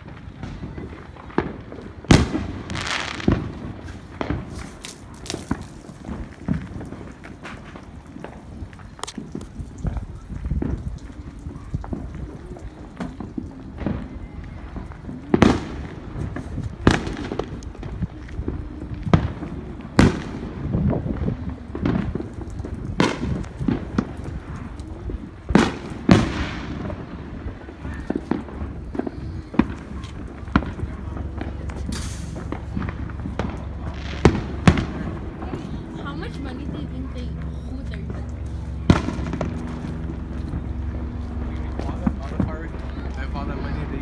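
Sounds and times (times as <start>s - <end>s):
firework crackles: 0.0s - 44.0s
fireworks bangs and pops: 0.0s - 44.0s.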